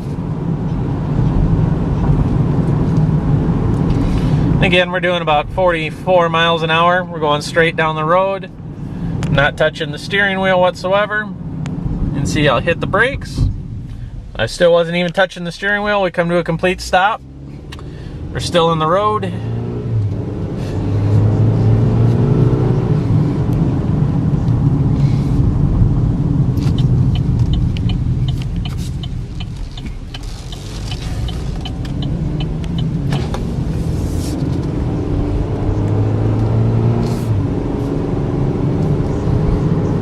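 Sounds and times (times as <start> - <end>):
car engine from inside cabin: 0.0 - 40.0
road rumble: 0.0 - 40.0.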